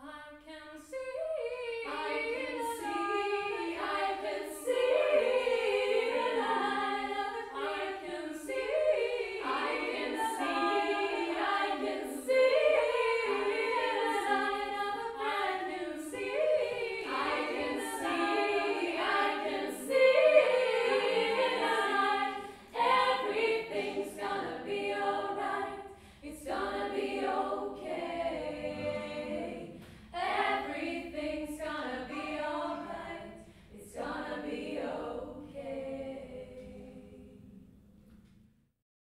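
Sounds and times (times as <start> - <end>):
women's choir singing a cappella: 0.0 - 38.0.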